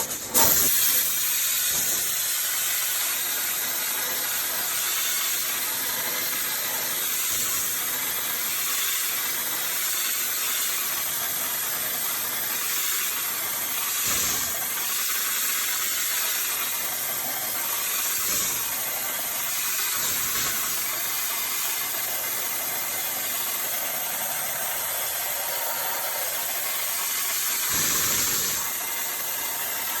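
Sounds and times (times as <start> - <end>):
high-pressure cleaning spray hiss: 0.0 - 30.0.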